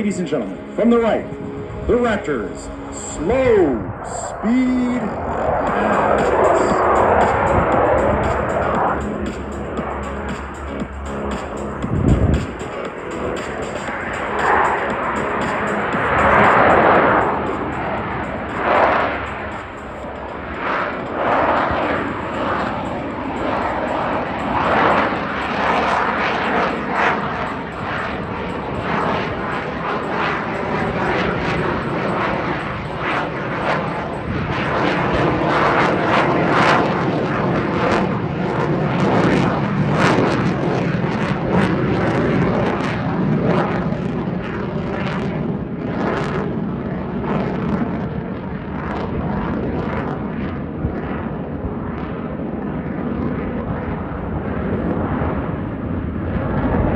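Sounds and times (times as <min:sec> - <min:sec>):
jet engine roar with crackle: 0:00.0 - 0:56.9.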